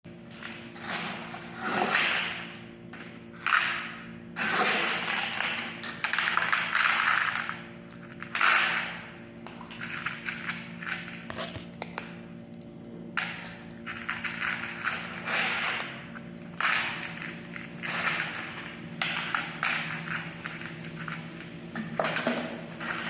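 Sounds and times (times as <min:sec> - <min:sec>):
steady low hum: 0:00.1 - 0:23.0.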